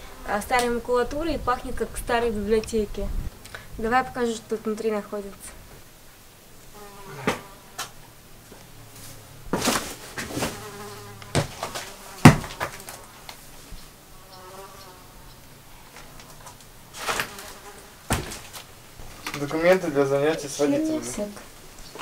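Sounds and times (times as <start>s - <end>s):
fly buzzing: 0.0s - 2.5s, 3.2s - 19.2s.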